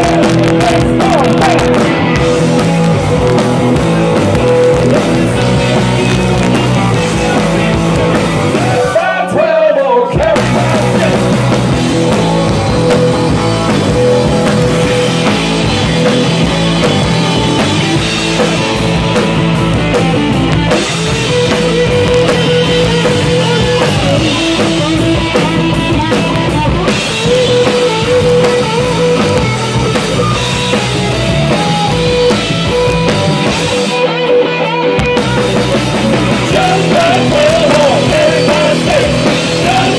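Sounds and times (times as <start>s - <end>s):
live rock band playing: 0.0s - 39.9s
sustained lead guitar line: 0.0s - 39.9s.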